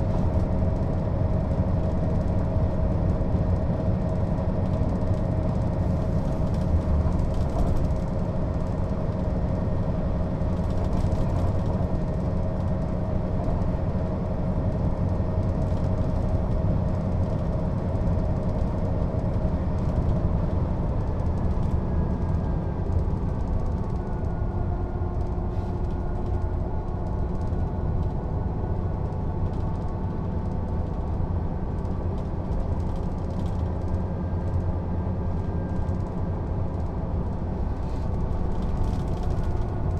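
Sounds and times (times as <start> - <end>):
bus diesel engine rumble: 0.0 - 39.9.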